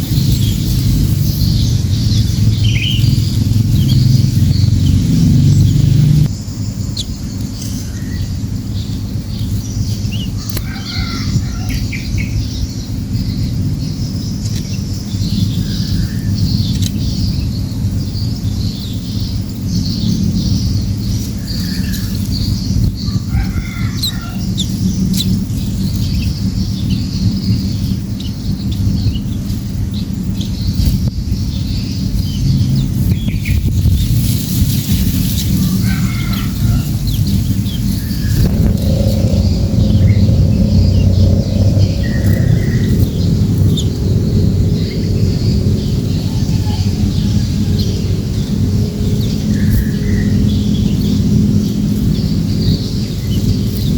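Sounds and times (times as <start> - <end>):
small songbirds chirping: 0.0 - 53.9
steady low rumble: 0.0 - 53.9.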